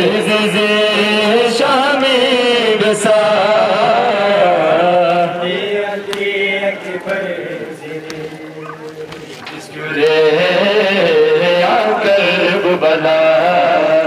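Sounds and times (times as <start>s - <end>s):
man chanting a lament: 0.0s - 14.0s.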